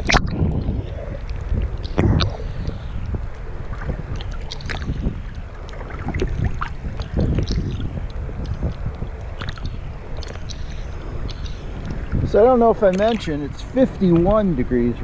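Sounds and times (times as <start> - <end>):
small splashes and ticks: 0.0 - 14.7
low rumble of water and wind: 0.0 - 15.0
small waves lapping: 0.0 - 15.0.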